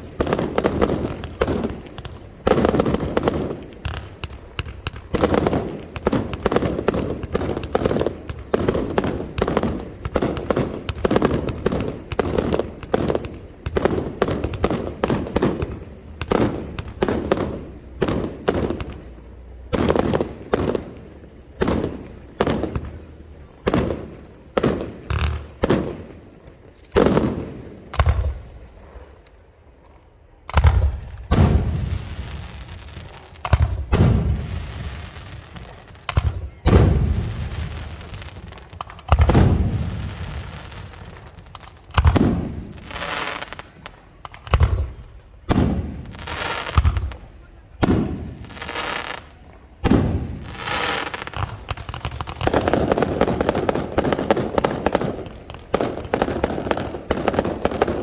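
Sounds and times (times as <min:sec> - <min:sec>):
firework crackle: 0:00.0 - 0:29.2, 0:30.5 - 0:58.0
firework bangs and booms: 0:00.0 - 0:58.0.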